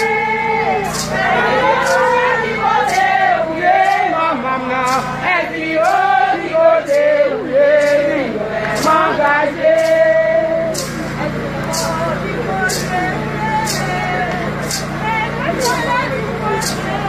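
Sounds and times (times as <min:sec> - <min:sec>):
crowd singing a chant: 0:00.0 - 0:17.0.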